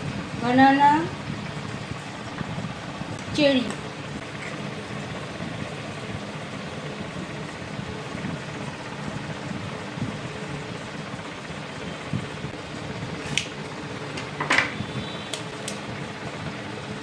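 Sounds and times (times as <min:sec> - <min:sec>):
steady fan-like hum: 0:00.0 - 0:17.0.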